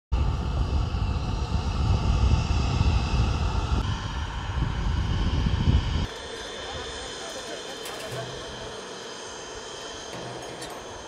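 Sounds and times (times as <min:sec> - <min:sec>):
aircraft piston engine rumbling: 0:00.2 - 0:11.0.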